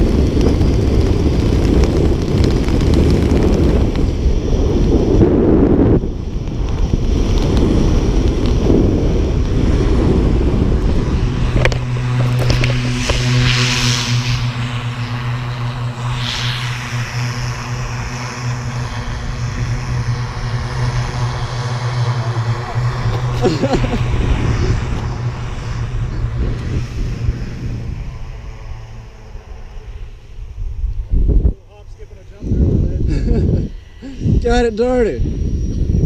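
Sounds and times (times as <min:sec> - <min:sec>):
propeller plane engine drone: 0:00.0 - 0:36.0
wind rushing over microphone: 0:00.0 - 0:36.0.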